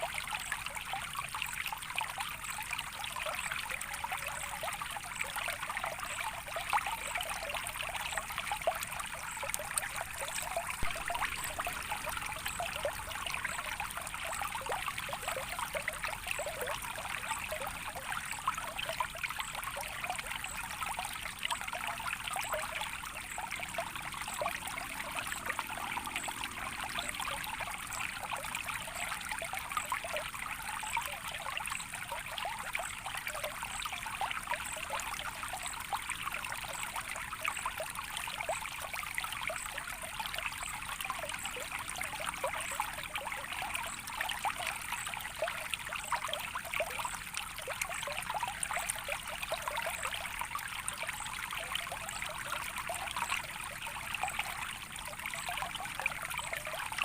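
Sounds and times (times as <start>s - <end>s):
stream trickling and splashing: 0.0s - 57.0s.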